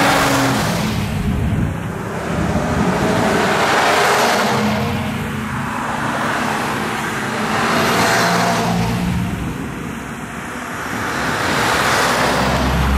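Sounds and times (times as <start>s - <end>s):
trucks driving past: 0.0s - 12.9s.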